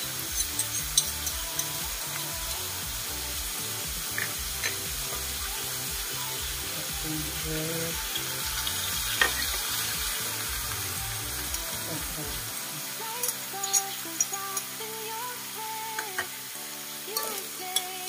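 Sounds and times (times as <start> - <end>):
meat sizzling in a wok: 0.0 - 18.0.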